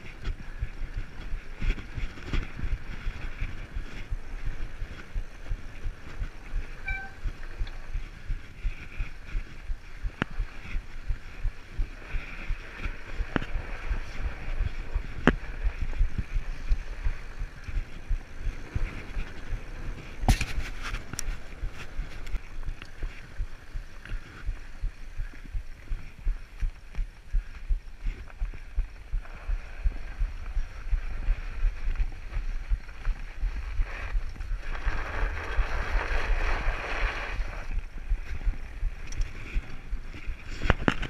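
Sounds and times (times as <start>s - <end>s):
bike clicks: 0.0s - 30.8s, 31.4s - 41.0s
bike tyres rumbling over snow: 0.0s - 41.0s.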